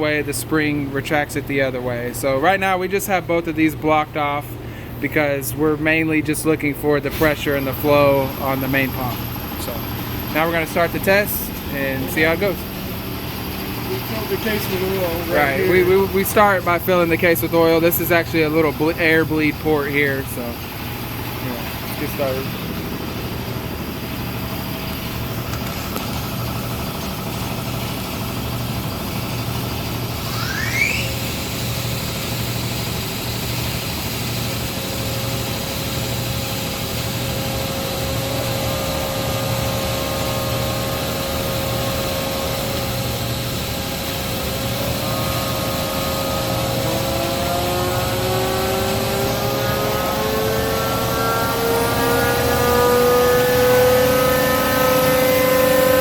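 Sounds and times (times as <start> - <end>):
hydraulic pump running: 0.0 - 56.0
pump whine rising in pitch: 7.0 - 56.0.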